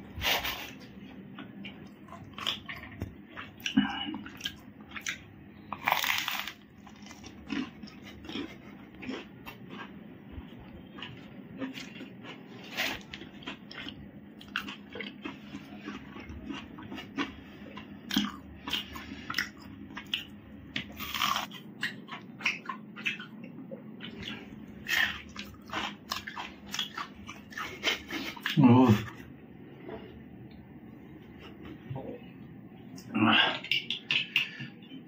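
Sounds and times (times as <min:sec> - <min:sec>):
person chewing food: 0:00.3 - 0:28.6.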